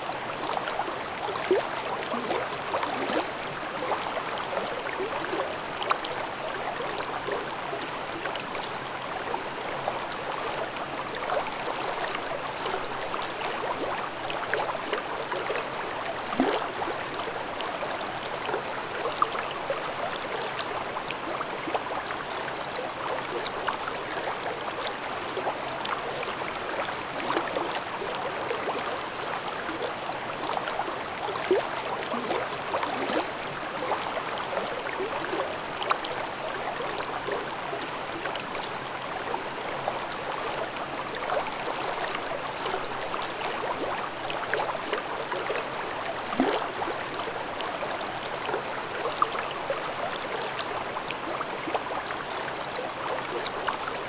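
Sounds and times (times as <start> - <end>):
stream babbling over rocks: 0.1 - 54.0.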